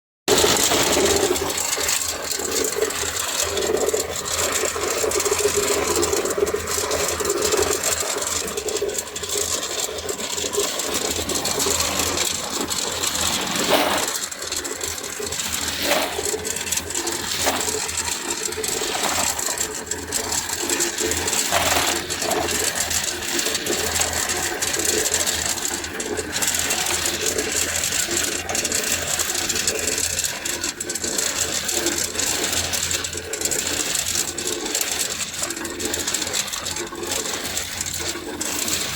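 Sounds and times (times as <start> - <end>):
compressor humming: 0.3 - 38.9
ice rattling and clattering: 0.3 - 38.9.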